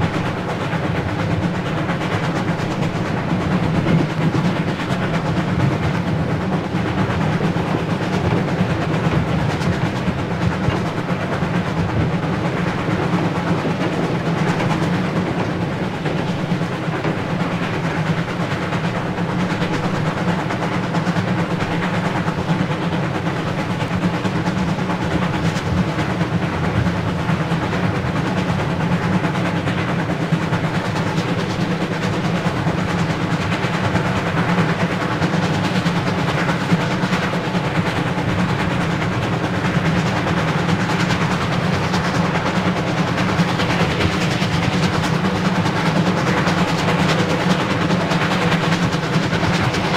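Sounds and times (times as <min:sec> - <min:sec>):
steam locomotive rumbling: 0:00.0 - 0:49.9.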